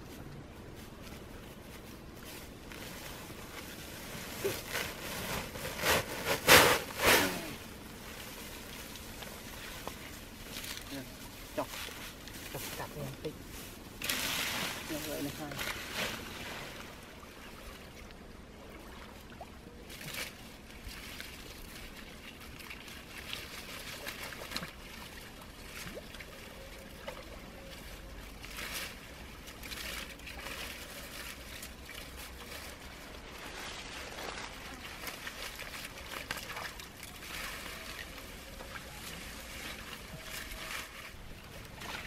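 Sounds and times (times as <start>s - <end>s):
rustling pond plants: 0.0s - 42.0s.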